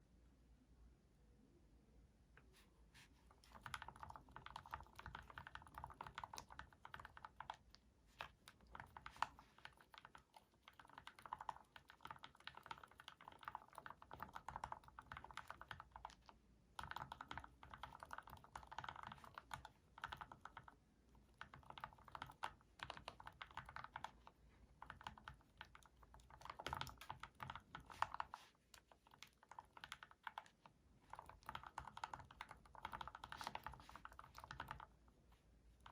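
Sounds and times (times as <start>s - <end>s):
mechanical keyboard typing: 3.4s - 35.0s.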